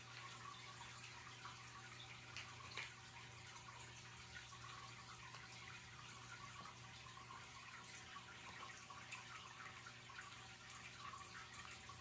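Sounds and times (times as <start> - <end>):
low steady hum: 0.0 - 12.0
water trickling and dripping: 0.0 - 12.0.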